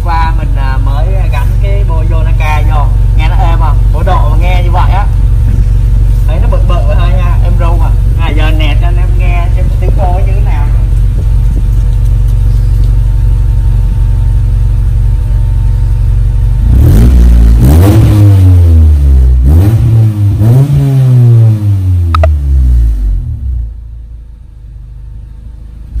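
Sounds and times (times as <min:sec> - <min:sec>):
car engine revving through exhaust: 0:00.0 - 0:25.0.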